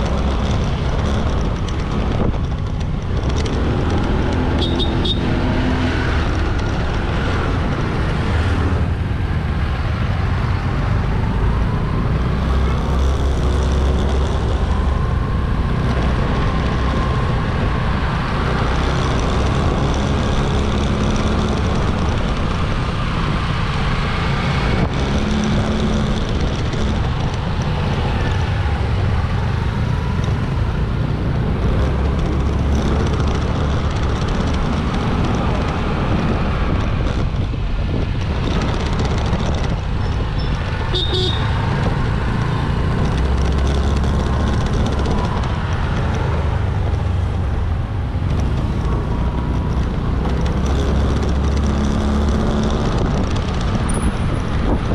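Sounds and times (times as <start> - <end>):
motorbike engine running: 0.0 - 8.8, 10.1 - 54.9
road and wind noise: 0.0 - 54.9
vehicles passing: 0.0 - 54.9.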